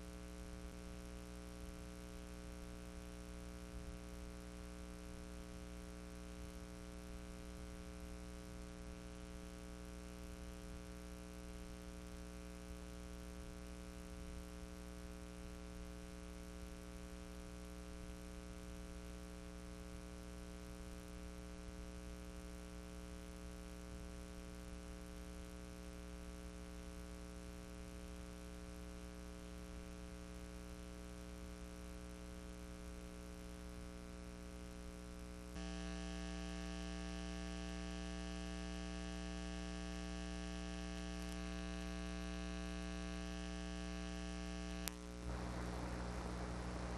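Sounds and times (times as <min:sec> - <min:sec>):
electrical hum with hiss: 0:00.0 - 0:26.8, 0:27.5 - 0:46.9.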